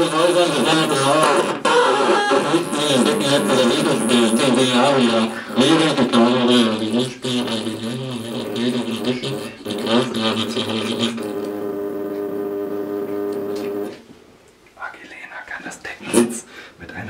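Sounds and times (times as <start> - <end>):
man droning with overtones: 0.0 - 14.0.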